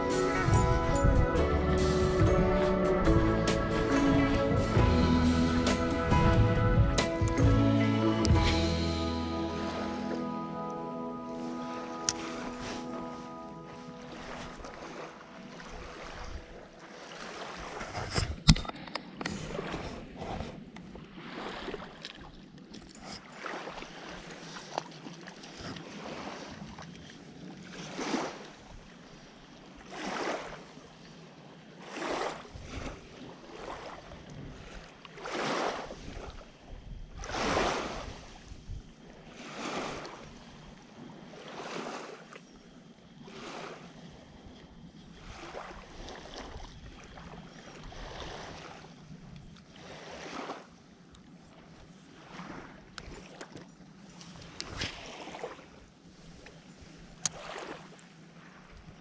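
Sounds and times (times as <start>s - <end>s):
lake water sloshing: 0.0s - 59.0s.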